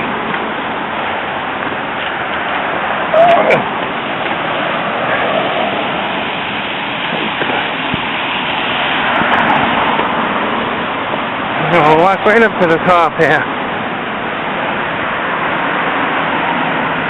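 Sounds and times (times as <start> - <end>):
traffic on wet road: 0.0 - 17.0.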